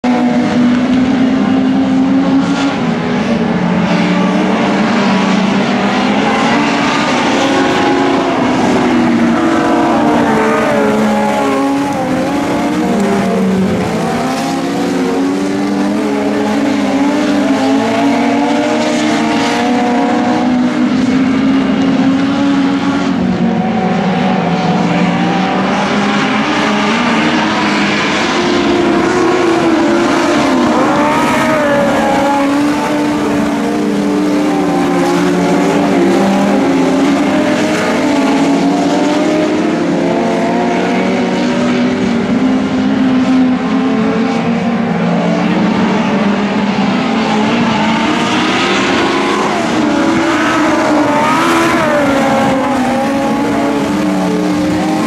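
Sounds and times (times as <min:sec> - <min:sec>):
race car engines droning: 0:00.0 - 0:55.0.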